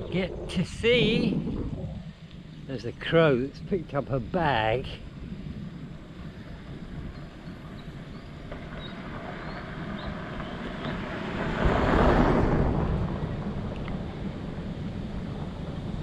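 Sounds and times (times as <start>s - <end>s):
bicycle tyres on road: 0.0s - 16.0s
wind on microphone: 0.0s - 16.0s.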